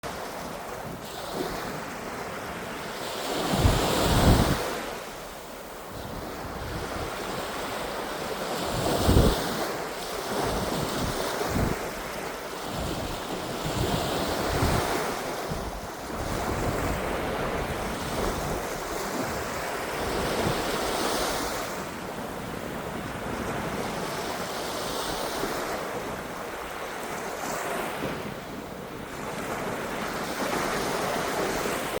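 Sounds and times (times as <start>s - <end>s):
waves washing ashore: 0.0s - 32.0s
wind buffeting microphone: 0.1s - 32.0s.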